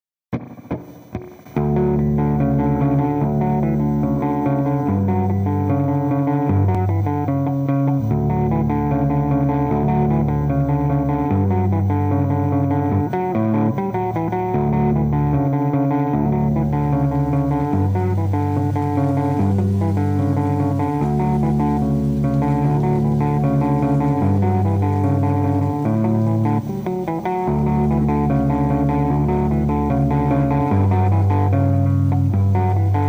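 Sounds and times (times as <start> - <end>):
instrumental guitar music: 0.3 - 33.0.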